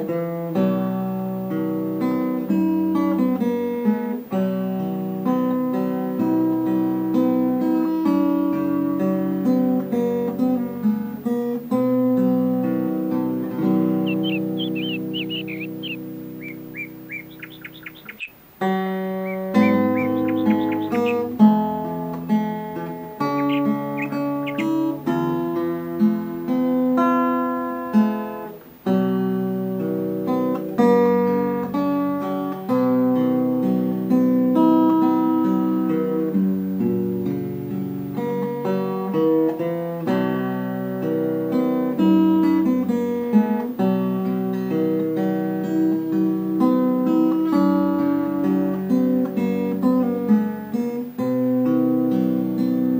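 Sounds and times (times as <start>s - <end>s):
solo acoustic guitar music: 0.0s - 52.9s.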